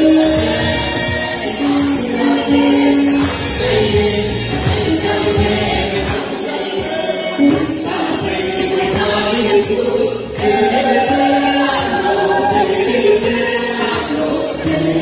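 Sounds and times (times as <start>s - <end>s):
congregation and choir singing: 0.0s - 15.0s.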